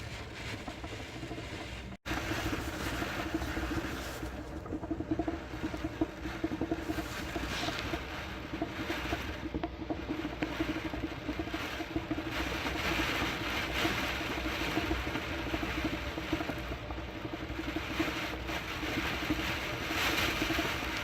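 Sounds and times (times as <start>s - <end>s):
low fluttering hum: 0.0s - 21.0s
wind and rain against window: 0.0s - 21.0s.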